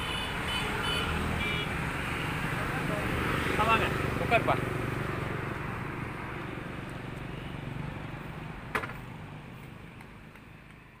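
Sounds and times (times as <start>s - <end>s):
street noise with low hum: 0.0s - 11.0s.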